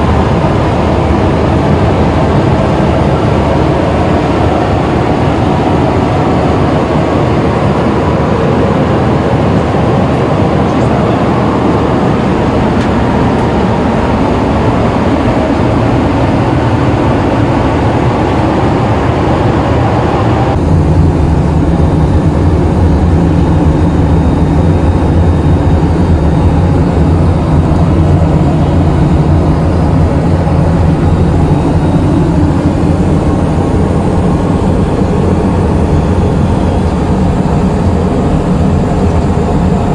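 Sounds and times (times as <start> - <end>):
airliner cabin engine noise: 0.0 - 39.9.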